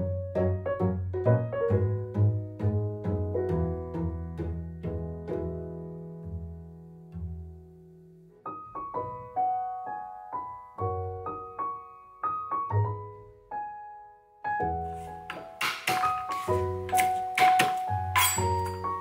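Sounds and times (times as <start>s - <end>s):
piano playing light melody: 0.0s - 19.0s.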